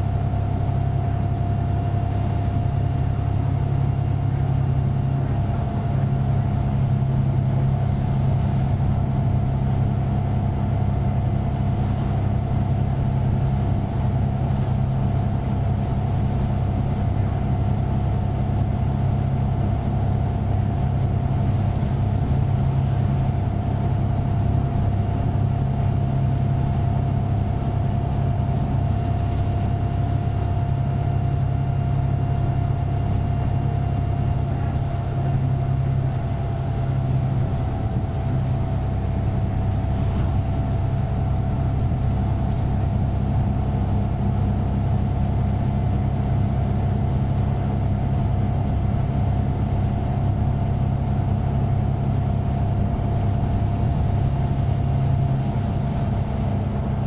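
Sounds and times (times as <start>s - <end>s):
bus diesel engine drone: 0.0s - 57.0s
steady engine whine: 0.0s - 57.0s.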